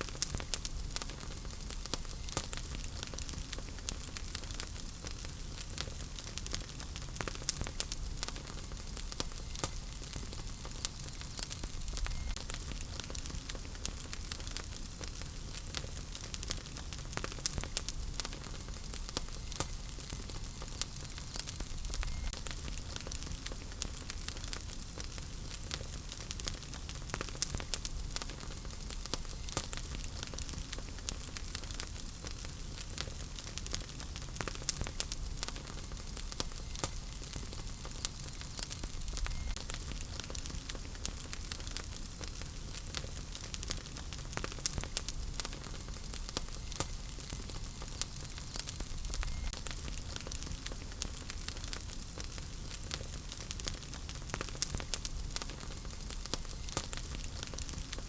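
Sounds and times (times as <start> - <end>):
low rumble of flames: 0.0 - 58.0
wood fire crackling and snapping: 0.0 - 58.0.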